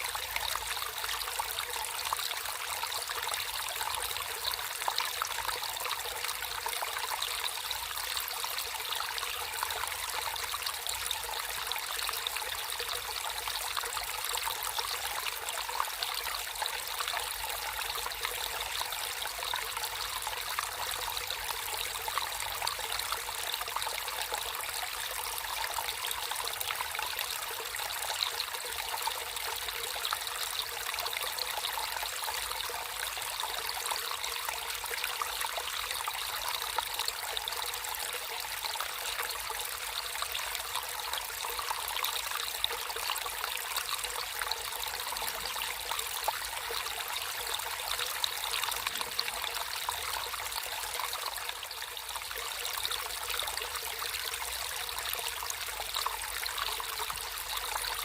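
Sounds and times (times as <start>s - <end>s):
water flowing and trickling: 0.0s - 58.0s.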